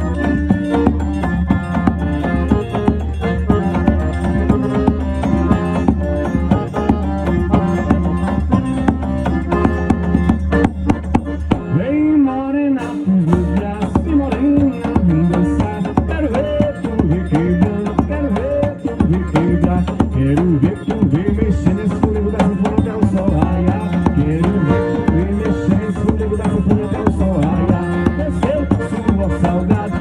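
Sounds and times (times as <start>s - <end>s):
pulsing drum beat: 0.0s - 11.8s, 12.8s - 30.0s
band playing dance music: 0.0s - 30.0s.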